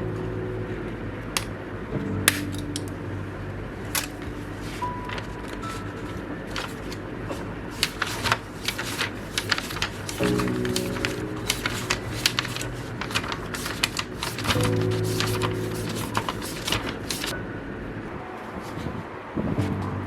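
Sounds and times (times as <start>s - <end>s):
soft background music: 0.0s - 20.0s.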